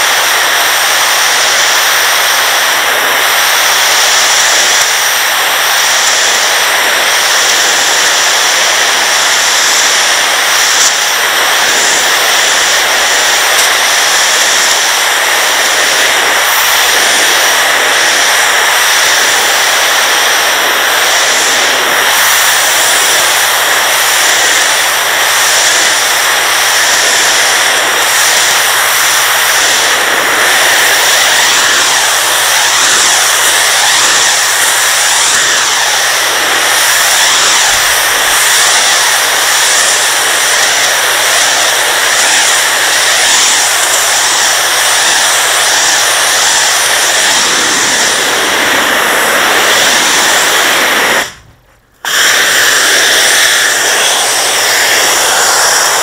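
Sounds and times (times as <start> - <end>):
pressure washer spray on stone: 0.0 - 56.0.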